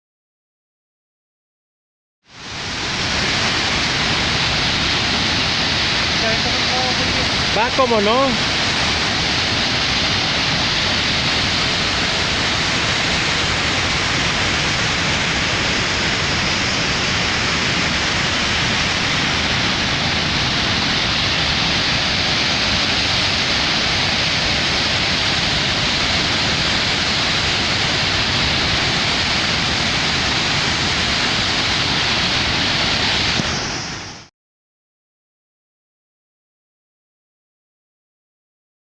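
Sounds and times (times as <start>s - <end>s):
waterfall rushing: 2.3s - 34.3s.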